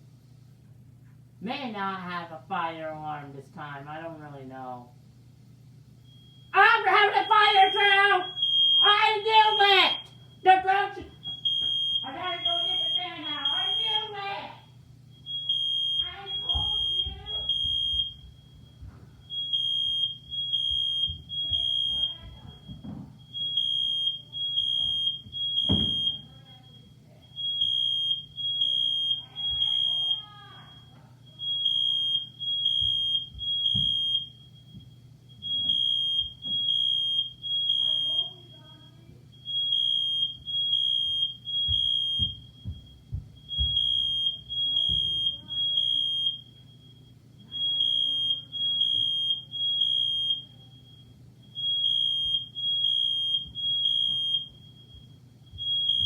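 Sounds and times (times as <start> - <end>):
smoke alarm beeping: 5.9 - 56.0.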